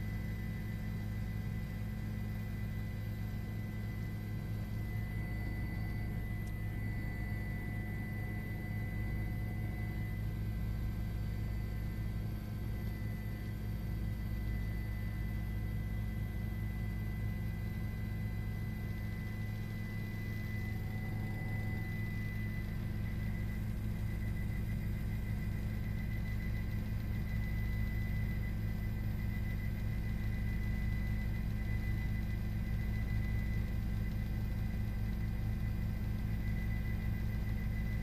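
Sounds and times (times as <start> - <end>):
low engine drone: 0.0 - 35.5
faint high whine: 0.0 - 38.0.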